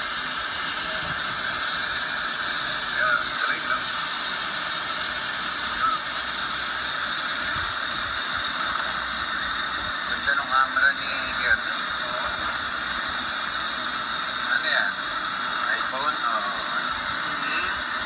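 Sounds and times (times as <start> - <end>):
hissing inside moving vehicle: 0.0 - 18.0.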